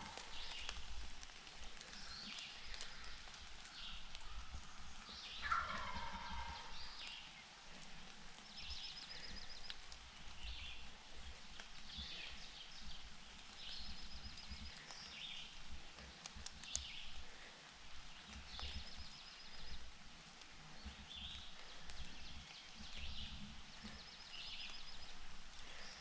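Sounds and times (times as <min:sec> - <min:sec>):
low outdoor rumble: 0:00.0 - 0:26.0
songbirds calling: 0:00.0 - 0:26.0.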